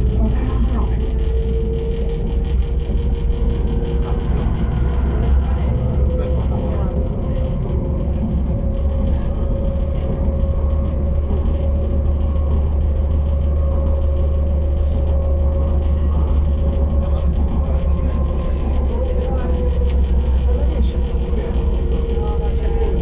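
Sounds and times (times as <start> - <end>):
train wheels rumbling on rail: 0.0 - 23.0
train whine: 0.0 - 23.0.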